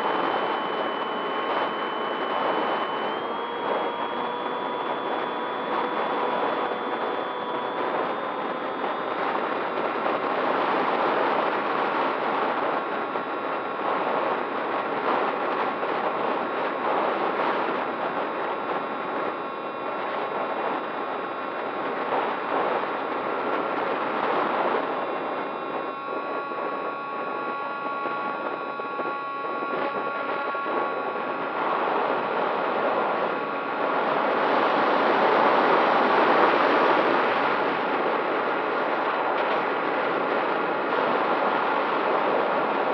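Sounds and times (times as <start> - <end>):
model aircraft motor whine: 0.0 - 42.9
wind noise on microphone: 0.0 - 42.9.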